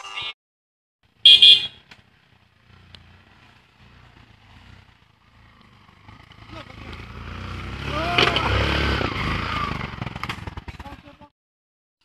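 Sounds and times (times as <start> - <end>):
motorcycle engine rumble: 1.0 - 11.3.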